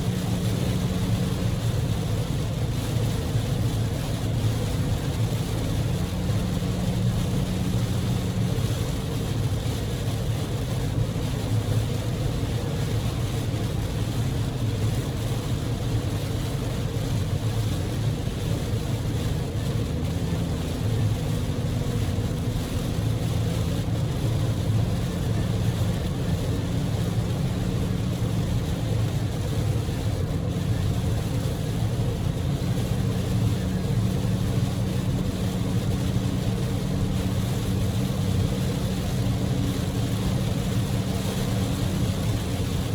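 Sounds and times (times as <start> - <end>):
car engine drone: 0.0 - 42.9
rain and tyre spray hiss: 0.0 - 42.9
road noise: 0.0 - 42.9.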